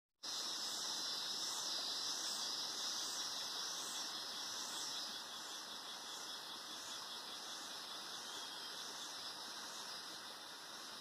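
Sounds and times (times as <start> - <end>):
cicadas buzzing in chorus: 0.2 - 11.0.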